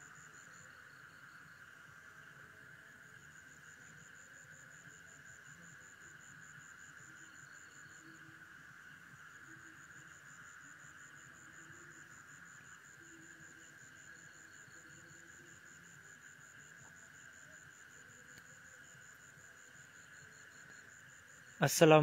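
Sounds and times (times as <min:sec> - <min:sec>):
cricket chirping: 0:00.0 - 0:22.0
insect chorus drone: 0:00.0 - 0:22.0.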